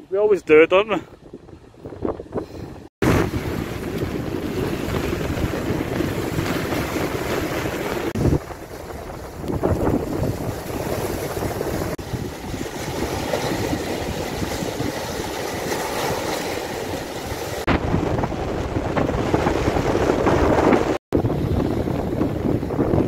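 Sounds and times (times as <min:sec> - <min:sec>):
wind rumbling on microphone: 0:00.7 - 0:23.0
waves breaking on rocks: 0:03.0 - 0:23.0.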